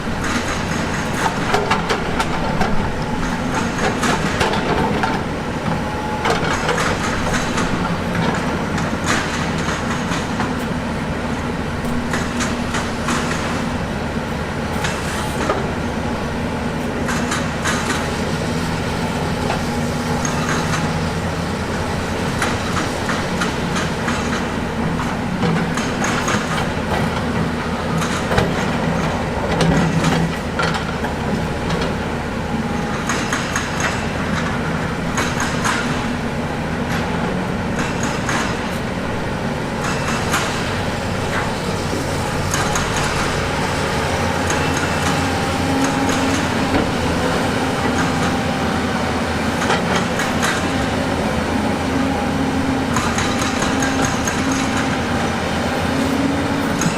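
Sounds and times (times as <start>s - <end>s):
heavy diesel machinery running: 0.0s - 56.9s.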